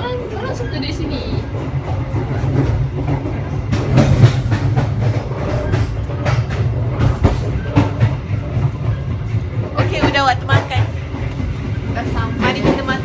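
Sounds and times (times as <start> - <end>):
train rumbling: 0.0 - 13.0
wheels clacking over rails: 0.0 - 13.0.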